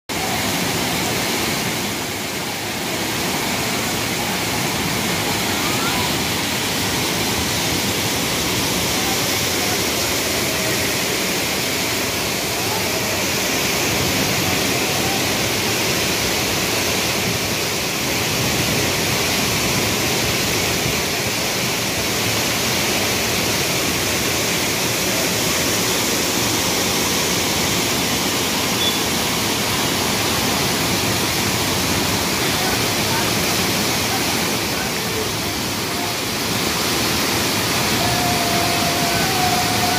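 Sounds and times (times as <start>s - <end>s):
floodwater rushing: 0.1s - 39.9s.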